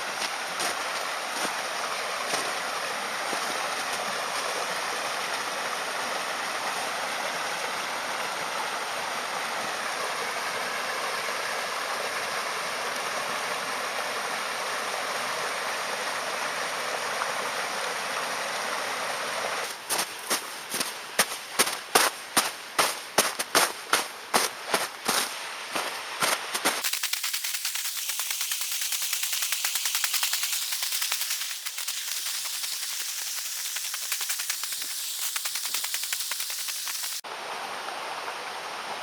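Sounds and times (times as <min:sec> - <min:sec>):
flowing water rushing: 0:00.0 - 0:19.8, 0:25.1 - 0:39.0.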